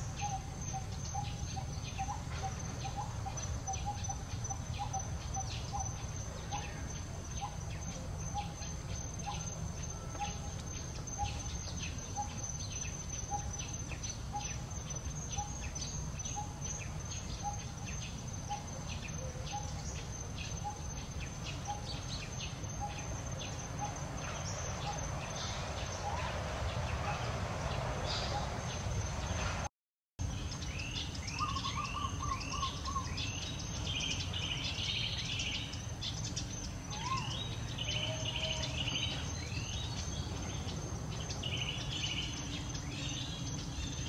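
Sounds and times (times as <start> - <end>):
insect drone: 0.0 - 44.0.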